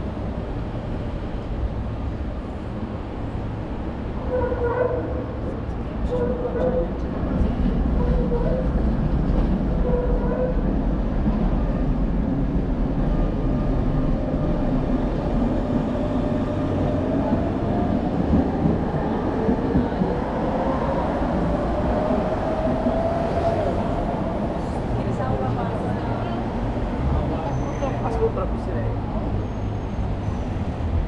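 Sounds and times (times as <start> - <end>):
rail vehicle rumbling past: 0.0 - 31.0.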